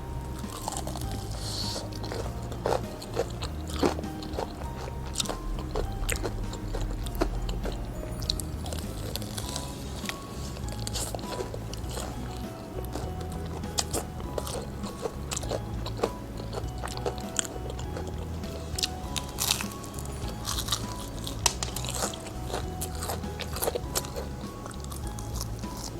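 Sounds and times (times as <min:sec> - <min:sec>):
crunchy chewing of fried chicken: 0:00.0 - 0:25.9
soft background music: 0:00.0 - 0:25.9.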